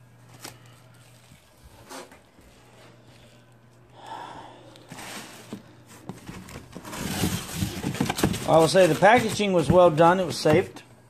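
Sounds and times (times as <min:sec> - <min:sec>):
bubble wrap and cardboard rustling: 0:00.0 - 0:03.8, 0:04.8 - 0:10.7.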